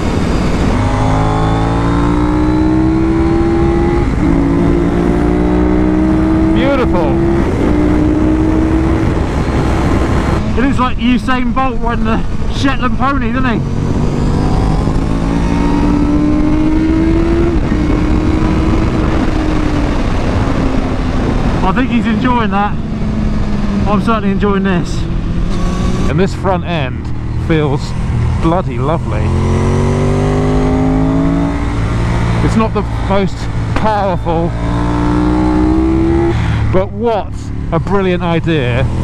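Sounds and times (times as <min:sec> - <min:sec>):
motorcycle engine accelerating: 0:00.0 - 0:11.0, 0:11.6 - 0:39.0
wind noise: 0:00.0 - 0:36.7.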